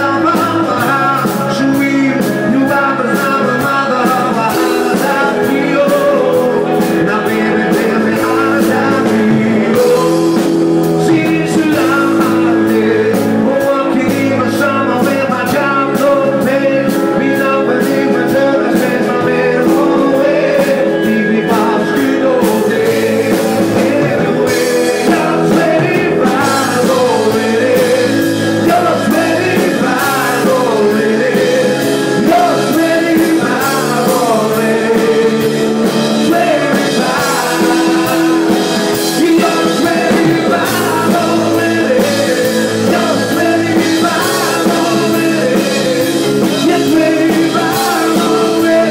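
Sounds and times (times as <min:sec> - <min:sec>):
person singing: 0:00.0 - 0:48.9
rock band playing: 0:00.0 - 0:48.9.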